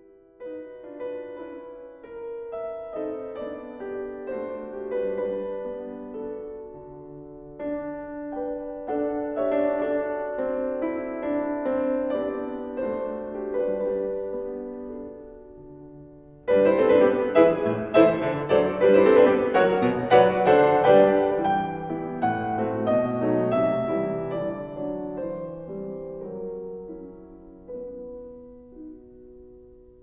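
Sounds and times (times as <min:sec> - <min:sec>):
soft piano music: 0:00.0 - 0:30.0.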